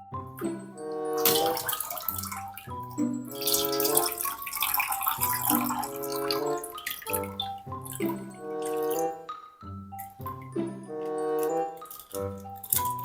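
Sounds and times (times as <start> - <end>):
melodic background music: 0.0 - 13.0
tap water splashing: 0.2 - 13.0.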